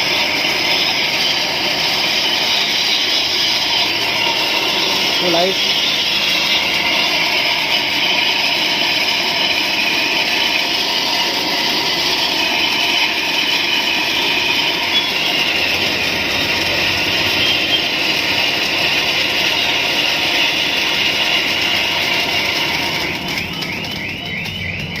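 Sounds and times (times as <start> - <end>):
pyro spark effect hissing: 0.0 - 24.2.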